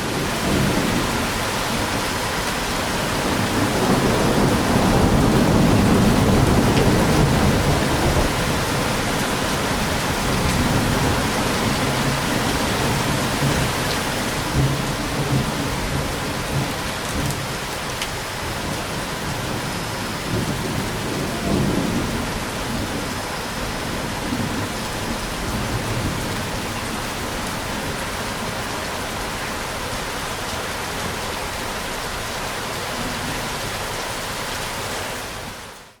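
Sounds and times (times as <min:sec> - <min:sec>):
thunder rumbling: 0:00.0 - 0:29.2
heavy rain: 0:00.0 - 0:36.0.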